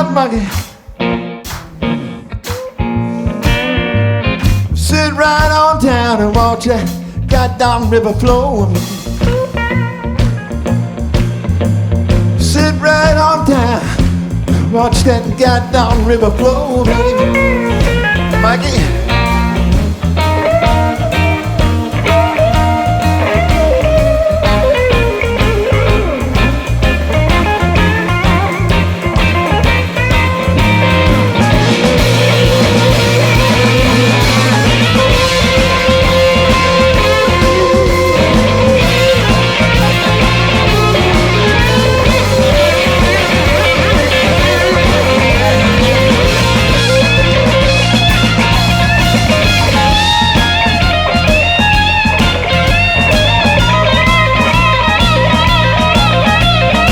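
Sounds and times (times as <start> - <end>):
bass guitar: 0.0 - 56.9
drums steady beat: 0.0 - 56.9
electric guitar lead bending notes: 0.0 - 56.9.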